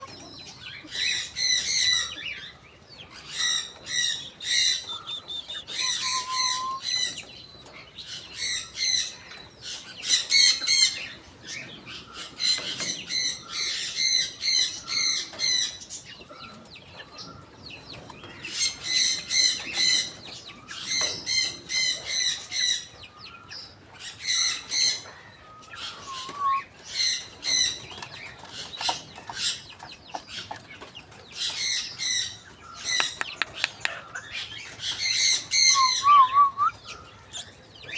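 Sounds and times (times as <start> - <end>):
young birds peeping: 0.0 - 37.9.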